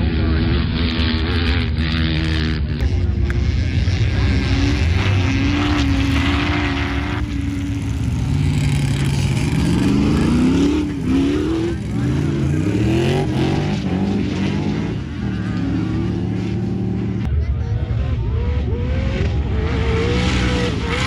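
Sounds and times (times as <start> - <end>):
off-road vehicle engines revving: 0.0 - 21.0.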